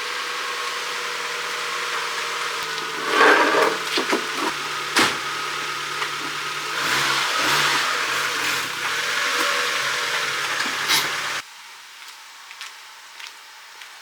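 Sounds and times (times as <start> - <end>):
car engine idling hum: 0.0 - 11.4.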